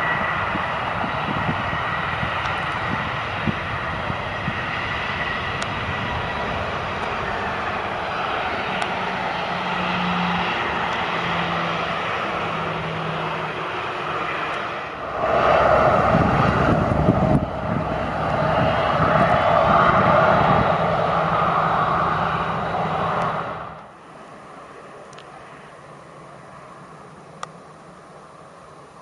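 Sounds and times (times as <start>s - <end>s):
bus passing rumble: 0.0s - 29.0s
jet engines roaring: 0.0s - 29.0s.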